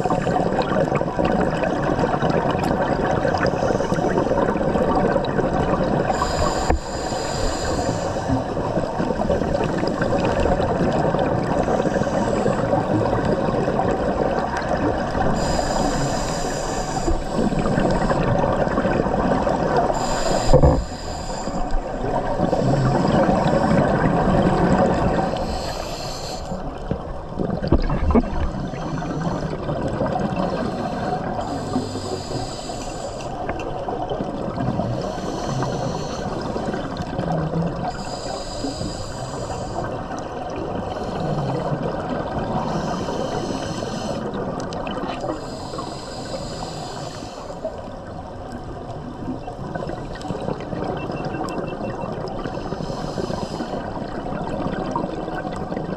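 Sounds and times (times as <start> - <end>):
steady watery hiss: 0.0 - 51.1, 52.2 - 55.9
exhaled bubbles burbling underwater: 0.0 - 55.9.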